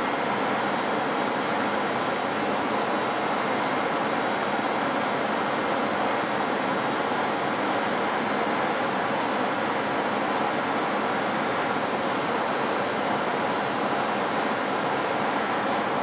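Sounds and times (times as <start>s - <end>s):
cabinet blower air rush: 0.0s - 16.0s.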